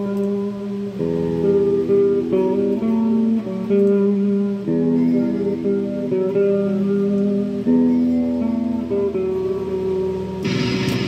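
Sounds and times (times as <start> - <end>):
electric guitar chords strummed: 0.0 - 11.0.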